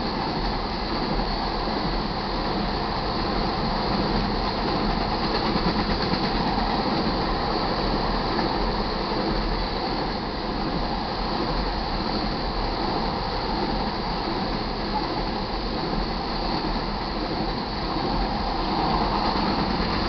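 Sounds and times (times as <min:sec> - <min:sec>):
steel wheels running on rails: 0:00.0 - 0:20.0.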